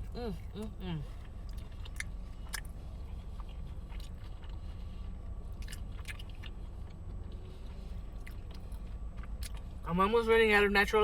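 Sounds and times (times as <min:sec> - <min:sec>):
wet chewing with mouth clicks: 0:00.0 - 0:09.9
steady low hum: 0:00.0 - 0:11.0.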